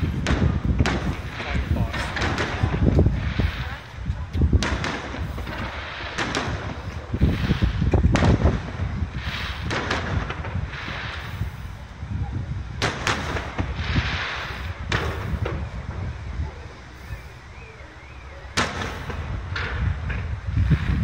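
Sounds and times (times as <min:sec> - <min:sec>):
fireworks booming: 0:00.0 - 0:21.0
fireworks hissing: 0:00.0 - 0:21.0
low rumbling: 0:00.0 - 0:21.0.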